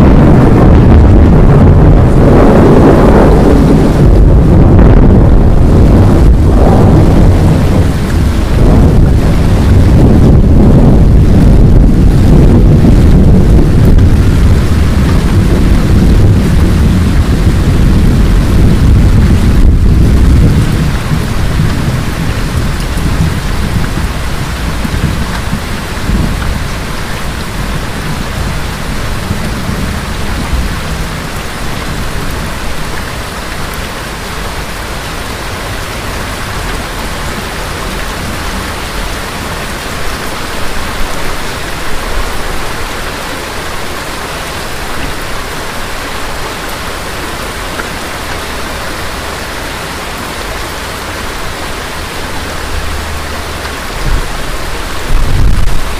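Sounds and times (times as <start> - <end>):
heavy rain: 0.0 - 55.9
thunder rumble: 0.0 - 55.9.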